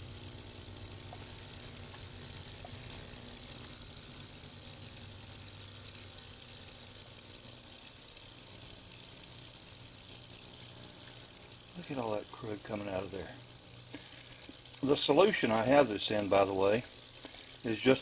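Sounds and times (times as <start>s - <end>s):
ultrasonic cleaner hissing: 0.0s - 18.0s.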